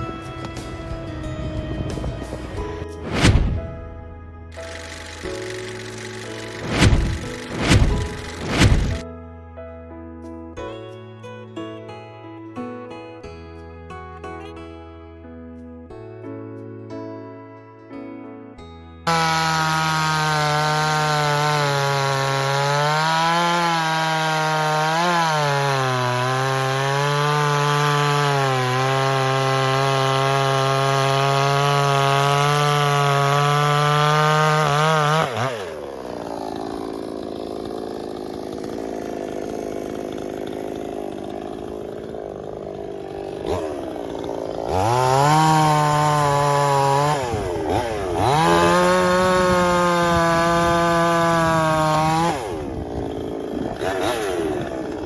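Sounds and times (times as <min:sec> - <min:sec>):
chainsaw cutting log: 0:00.0 - 0:03.8, 0:04.5 - 0:09.1, 0:19.1 - 0:55.0.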